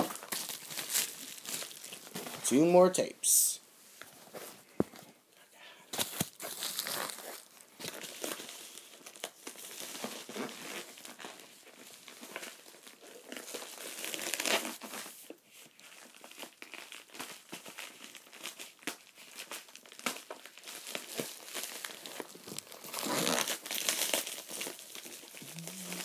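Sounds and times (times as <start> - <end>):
packaging crinkling and tearing: 0.0 - 2.4, 5.9 - 26.0.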